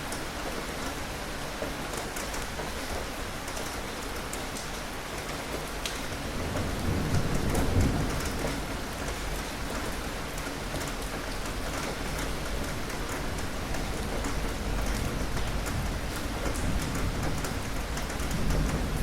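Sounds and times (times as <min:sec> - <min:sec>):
rain falling on a surface: 0:00.0 - 0:19.0.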